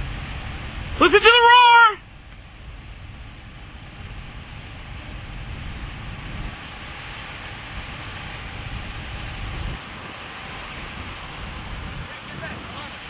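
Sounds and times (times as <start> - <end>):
tornado roaring: 0.0 - 13.0.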